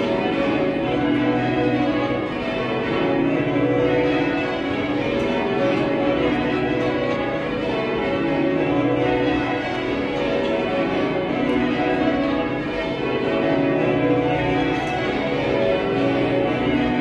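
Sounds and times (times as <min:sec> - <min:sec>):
church bells change-ringing: 0:00.0 - 0:17.0.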